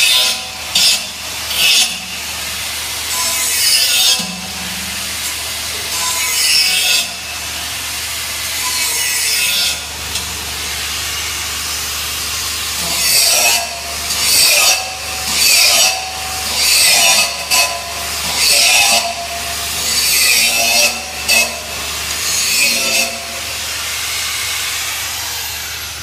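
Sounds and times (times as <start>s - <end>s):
welding arc crackling hiss: 0.0s - 26.0s.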